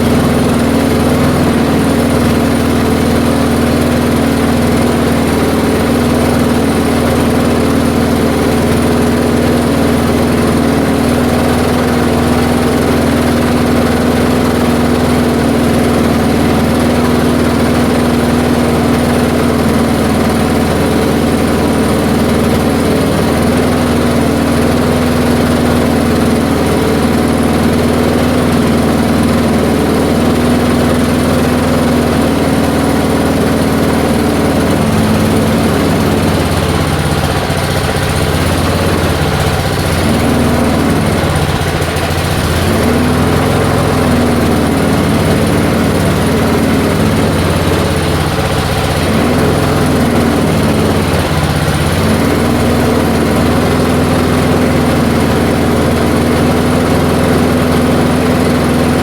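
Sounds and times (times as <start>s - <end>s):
push mower engine running: 0.0s - 59.0s.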